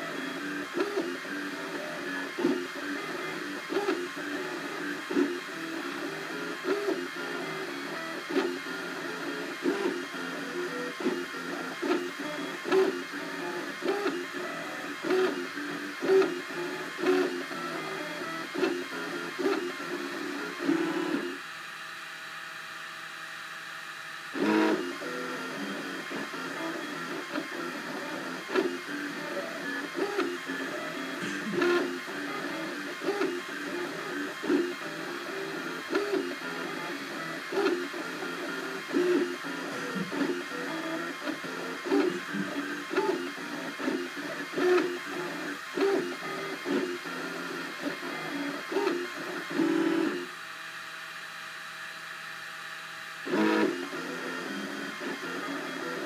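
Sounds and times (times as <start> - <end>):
printer stepper motors whining: 0.0 - 56.0.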